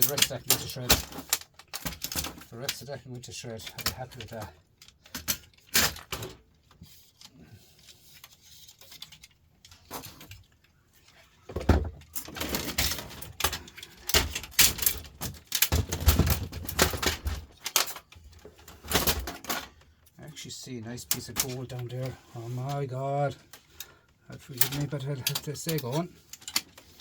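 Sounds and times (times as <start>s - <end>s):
plastic and metal parts clattering: 0.0s - 20.3s, 20.9s - 27.0s.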